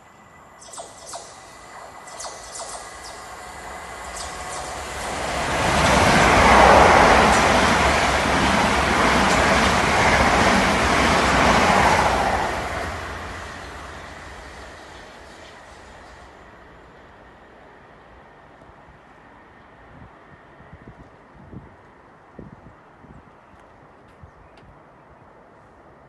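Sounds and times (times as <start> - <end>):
train passing at speed: 0.0 - 23.1.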